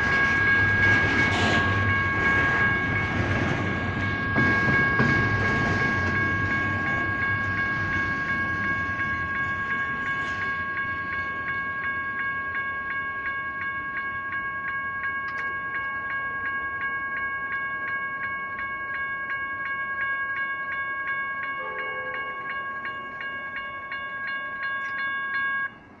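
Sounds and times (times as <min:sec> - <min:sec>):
passing train rumble: 0:00.0 - 0:26.0
railroad crossing bells ringing: 0:00.0 - 0:26.0.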